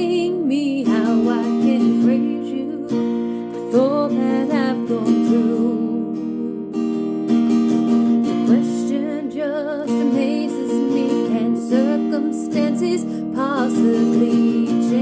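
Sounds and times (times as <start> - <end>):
person singing: 0.0 - 7.3, 8.2 - 15.0
acoustic guitar strumming: 0.0 - 15.0.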